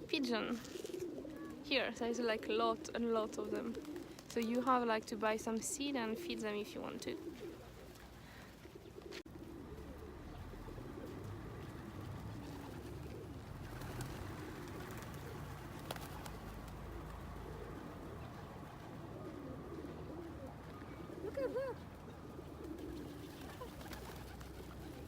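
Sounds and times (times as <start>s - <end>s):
pigeons cooing: 0.0s - 4.9s, 6.0s - 25.0s.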